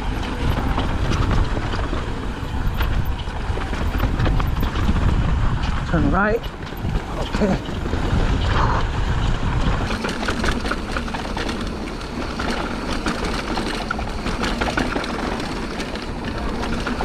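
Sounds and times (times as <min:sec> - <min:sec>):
bike rattling and ticking: 0:00.0 - 0:17.0
wind rumbling on microphone: 0:00.0 - 0:17.0.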